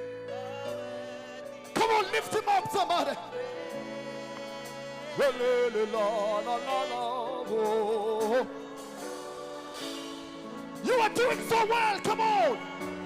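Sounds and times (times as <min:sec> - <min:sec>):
keyboard chords: 0:00.0 - 0:13.0
person singing with vibrato: 0:00.0 - 0:13.0.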